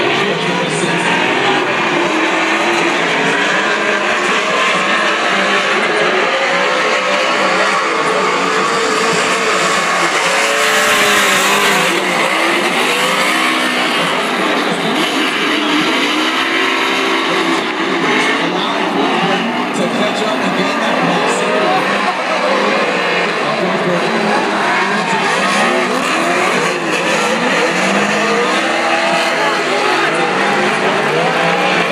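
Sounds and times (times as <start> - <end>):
race car engines revving: 0.0 - 31.9
tires screeching: 0.0 - 31.9.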